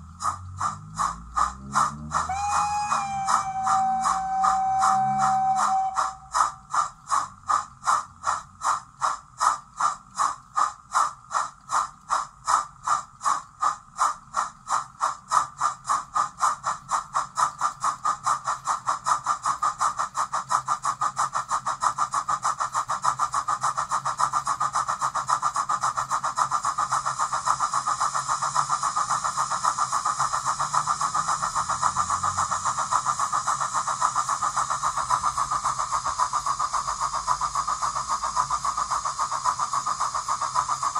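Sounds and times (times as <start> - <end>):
model steam locomotive chuffing: 0.0 - 40.9.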